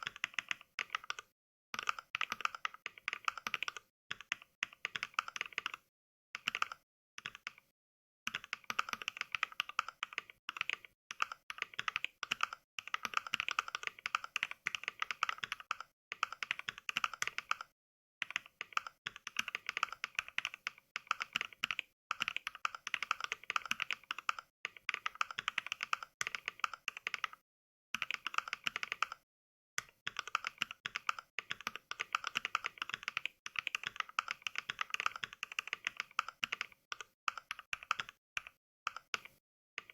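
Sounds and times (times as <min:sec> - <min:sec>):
mechanical keyboard typing: 0:00.0 - 0:07.7, 0:08.3 - 0:27.4, 0:28.0 - 0:29.2, 0:29.8 - 0:39.9.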